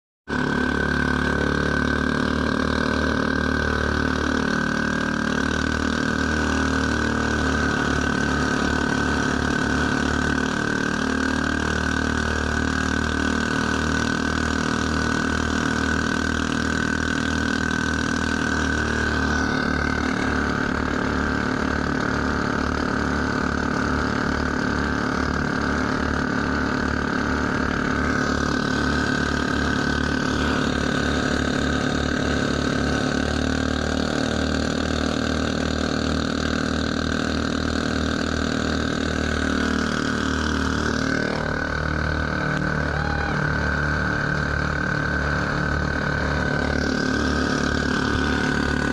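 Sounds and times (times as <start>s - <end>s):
boat engine drone: 0.3s - 48.9s.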